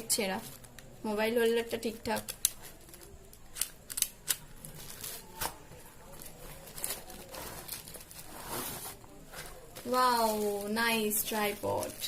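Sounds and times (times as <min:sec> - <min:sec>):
plastic packaging crackling: 0:00.0 - 0:12.0
plastic rustling: 0:02.1 - 0:12.0.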